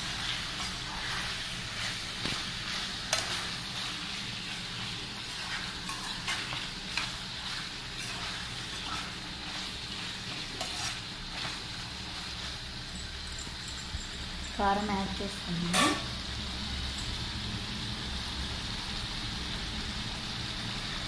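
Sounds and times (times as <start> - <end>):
meat sizzling in a pan: 0.0 - 13.3, 15.8 - 21.0.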